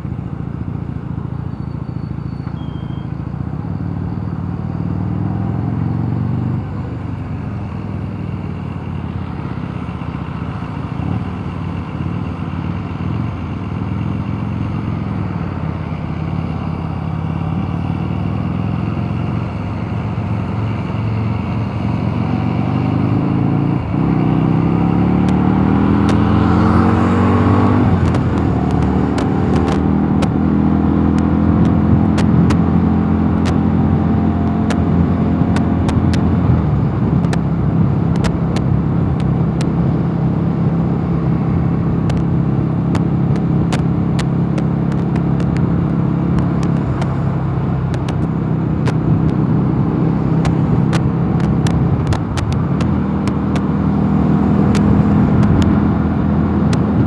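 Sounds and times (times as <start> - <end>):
motorcycle engine running: 0.0 - 57.0
noisy rush: 5.0 - 57.0.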